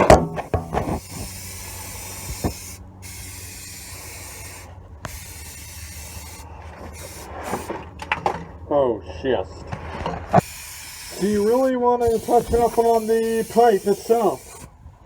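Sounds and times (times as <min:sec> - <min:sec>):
spray paint can hissing: 0:00.0 - 0:07.8, 0:10.4 - 0:14.7.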